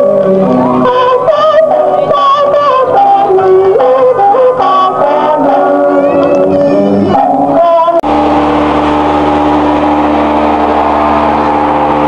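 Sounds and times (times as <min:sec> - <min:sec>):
festival singing with music: 0:00.0 - 0:12.0
steady engine hum: 0:00.0 - 0:12.0.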